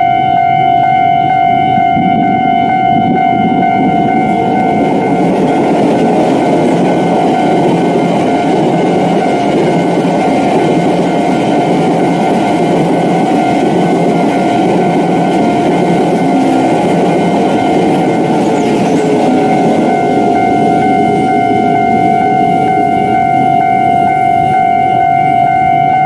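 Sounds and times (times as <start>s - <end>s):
train rumbling past: 1.6s - 25.8s
steady crossing tones: 3.1s - 25.7s.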